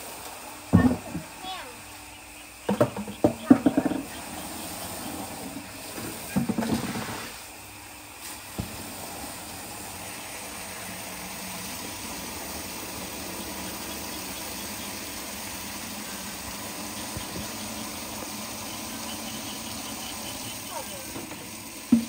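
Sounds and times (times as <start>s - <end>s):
low motor hum: 0.2s - 6.6s, 8.5s - 22.0s.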